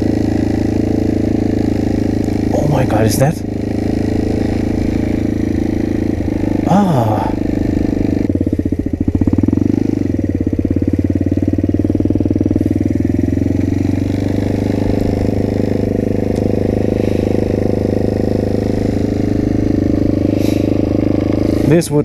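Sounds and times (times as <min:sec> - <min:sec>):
minibike engine running: 0:00.0 - 0:22.0.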